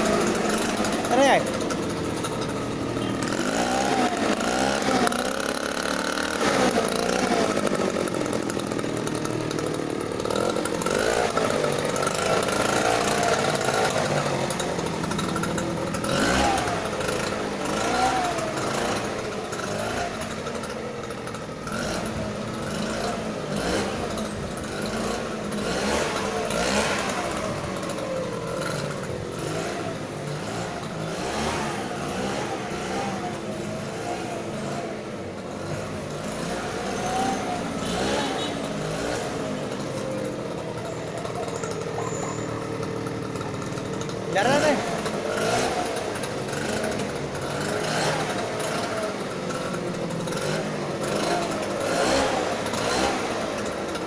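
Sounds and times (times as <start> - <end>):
small petrol engine revving: 0.0 - 54.0.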